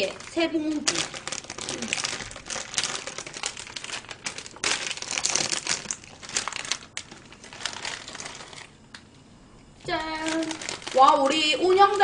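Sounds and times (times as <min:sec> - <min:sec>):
plastic packaging crinkling: 0:00.0 - 0:09.1, 0:09.8 - 0:12.0.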